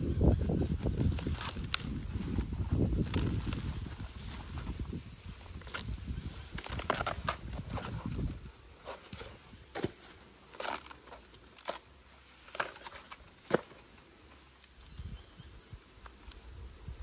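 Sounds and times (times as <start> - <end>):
dry leaves and twigs crackling: 0.0 - 17.0.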